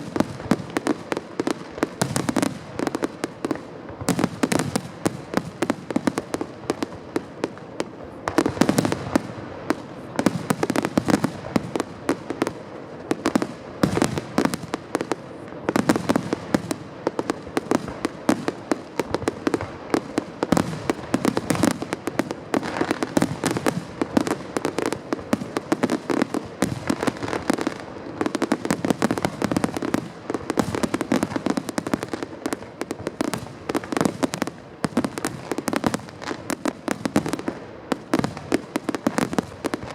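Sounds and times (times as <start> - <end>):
fireworks bursts and crackling: 0.0 - 39.9.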